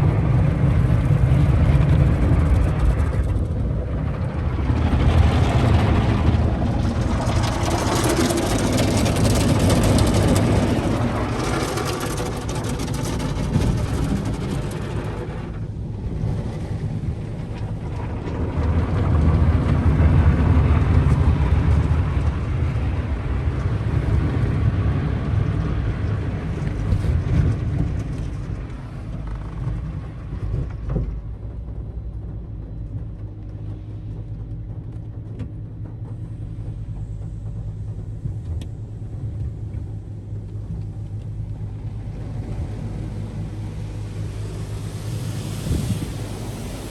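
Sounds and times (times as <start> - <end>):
car wash spray and machinery: 0.0 - 46.9.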